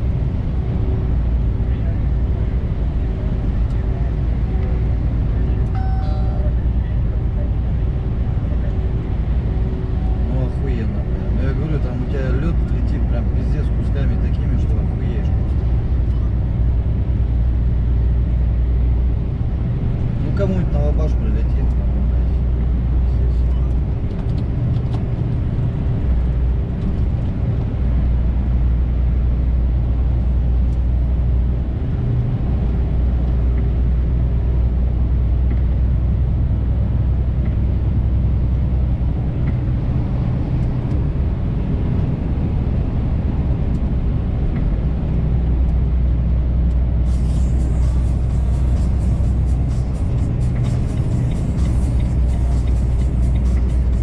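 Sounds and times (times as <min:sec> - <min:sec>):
road noise: 0:00.0 - 0:54.0
truck engine droning: 0:00.0 - 0:54.0.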